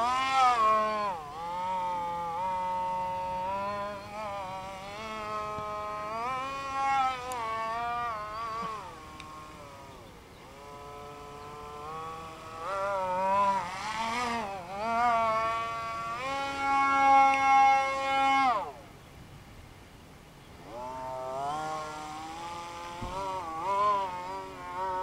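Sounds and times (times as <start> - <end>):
model plane motor whining: 0.0 - 19.1, 20.1 - 25.0.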